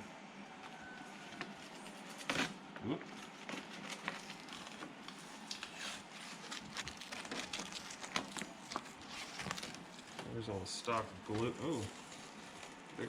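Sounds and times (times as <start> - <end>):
sheet crinkling as peeled away: 1.2 - 13.0.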